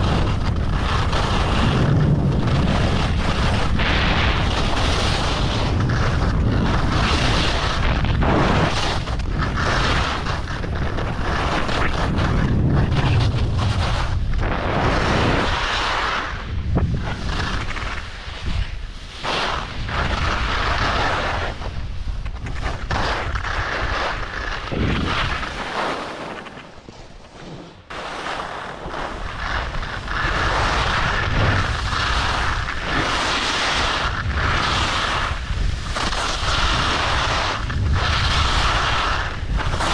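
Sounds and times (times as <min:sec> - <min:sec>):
wind buffeting microphone: 0:00.0 - 0:25.6, 0:28.8 - 0:39.9
skis carving over snow: 0:00.0 - 0:39.9.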